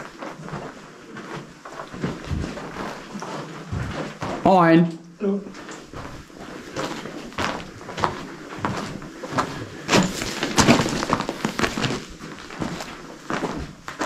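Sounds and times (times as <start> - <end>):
footsteps on loose stones: 0.0 - 4.4, 5.6 - 14.0.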